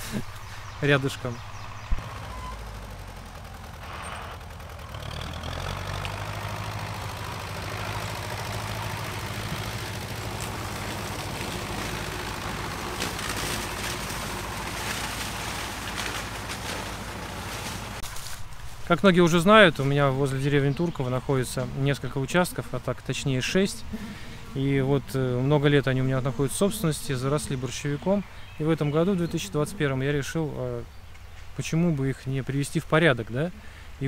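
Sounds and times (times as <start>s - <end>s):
tractor engine humming: 0.0s - 34.0s.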